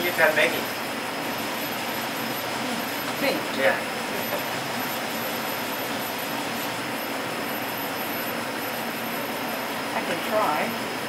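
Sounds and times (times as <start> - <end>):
faint high whine: 0.0 - 11.0
ventilation fans rushing air: 0.0 - 11.0.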